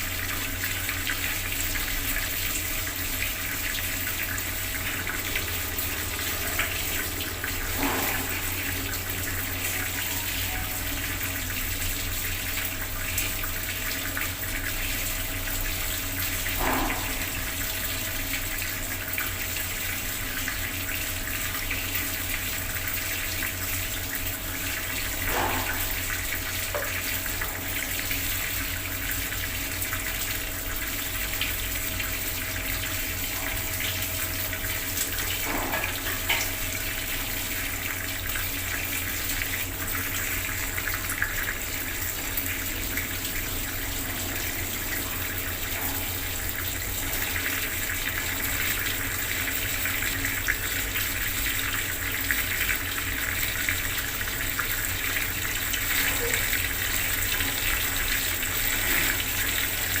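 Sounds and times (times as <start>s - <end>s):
tap water pouring and splashing: 0.0s - 60.0s.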